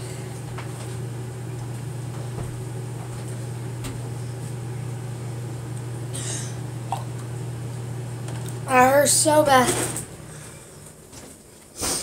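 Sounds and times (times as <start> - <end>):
appliance humming: 0.0 - 12.0.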